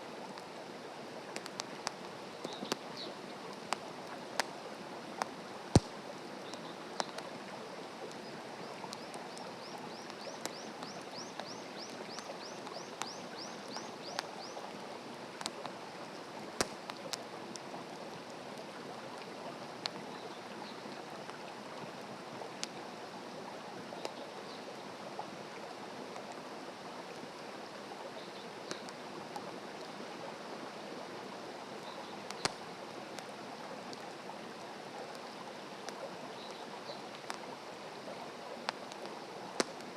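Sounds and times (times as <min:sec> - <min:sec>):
campfire crackling and popping: 0:00.1 - 0:22.9, 0:25.1 - 0:30.2, 0:31.5 - 0:39.9.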